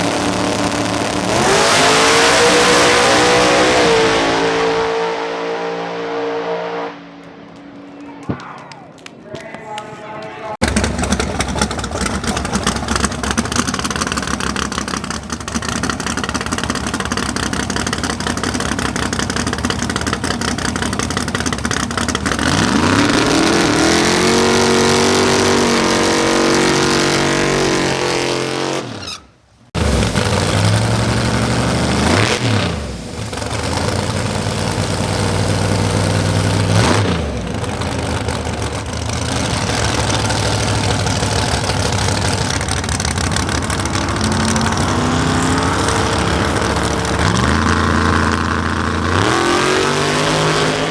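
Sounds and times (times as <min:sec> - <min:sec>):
race car engines at full throttle: 0:00.0 - 0:08.3, 0:10.5 - 0:50.9.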